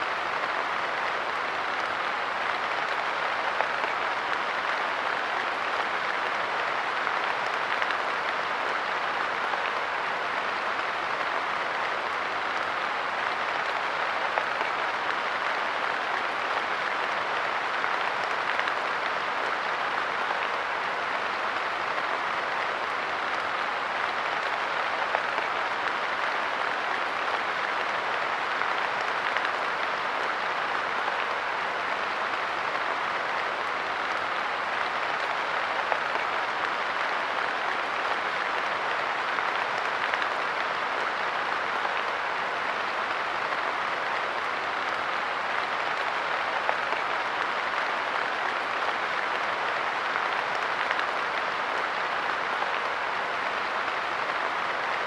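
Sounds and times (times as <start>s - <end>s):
light rain pattering on a bench: 0.1s - 55.0s.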